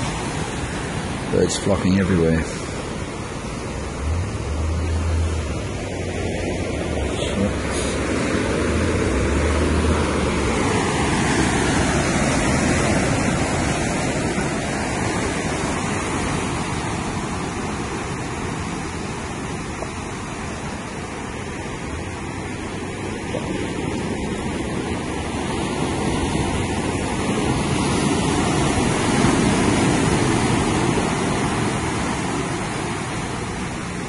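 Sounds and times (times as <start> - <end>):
ocean surf washing ashore: 0.0 - 34.0
wind rumbling on microphone: 2.2 - 34.0.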